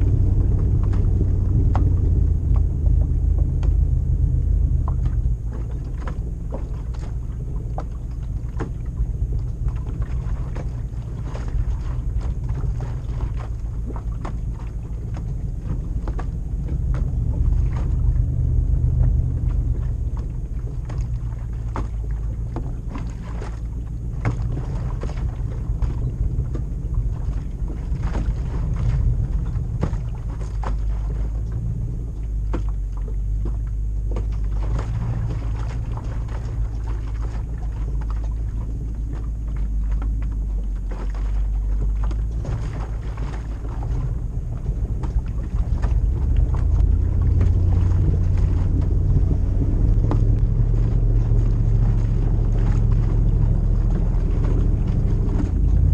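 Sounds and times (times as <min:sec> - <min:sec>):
car engine rumbling while driving: 0:00.0 - 0:55.9.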